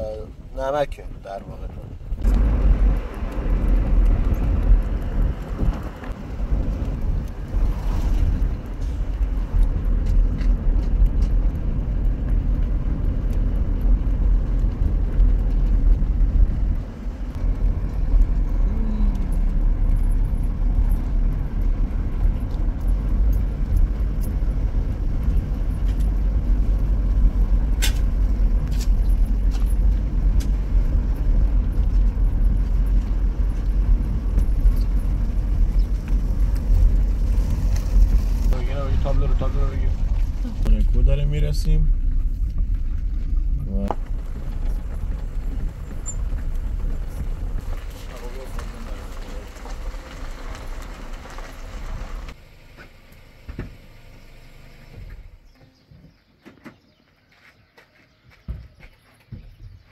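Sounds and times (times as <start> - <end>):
car engine and road rumble: 0.0 - 57.1.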